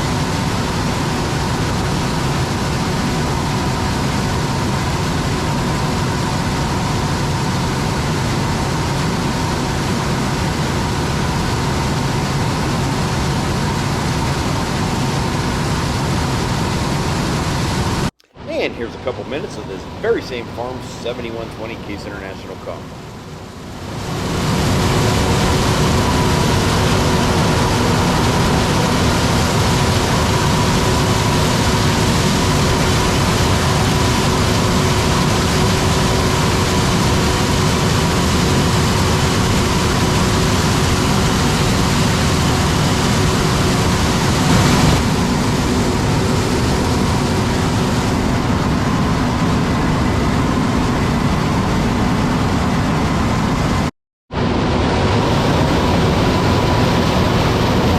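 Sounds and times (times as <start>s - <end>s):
constant whine: 0.0s - 57.9s
loud mechanical running noise: 0.0s - 57.9s.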